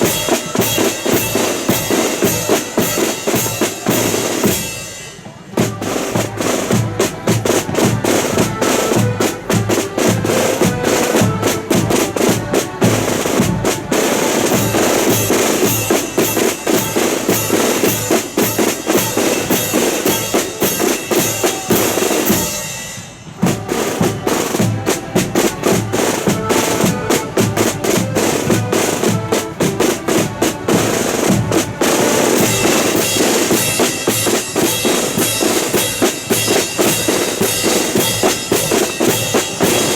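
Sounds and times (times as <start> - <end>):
accordions playing a tune: 0.0 - 4.8, 5.6 - 22.8, 23.4 - 39.9
rattling snare drums: 0.0 - 39.9.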